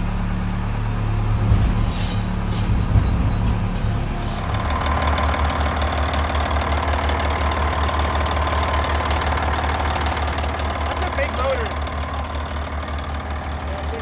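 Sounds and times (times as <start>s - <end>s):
loader engine idling: 0.0s - 14.0s.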